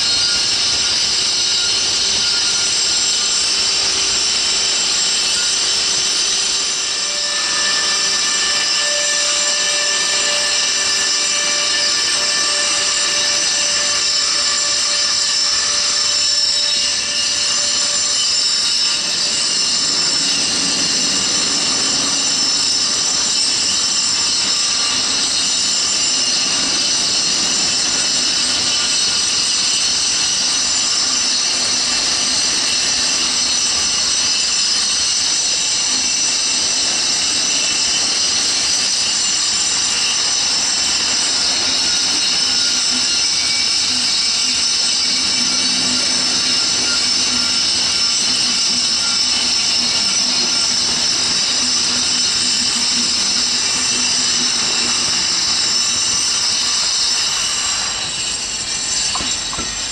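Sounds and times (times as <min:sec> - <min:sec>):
coaches running on rails: 0:00.0 - 0:59.9
train wheels squealing: 0:00.0 - 0:59.9.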